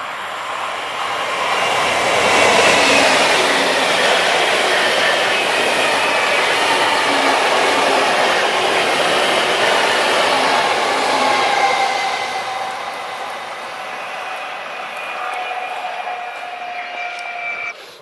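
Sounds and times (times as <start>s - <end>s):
faint high whine: 0.0s - 17.9s
train rushing past: 0.0s - 17.9s.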